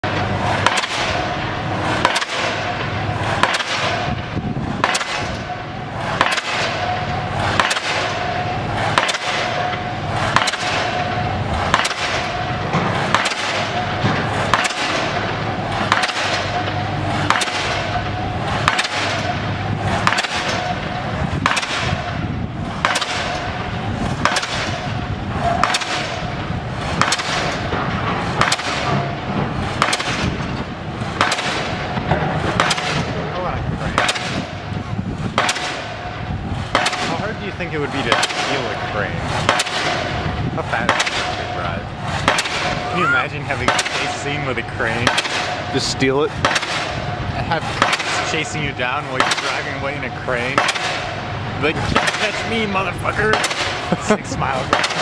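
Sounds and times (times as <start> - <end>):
pile hammer metal strikes: 0.0 - 55.0
steady low hum: 0.0 - 55.0.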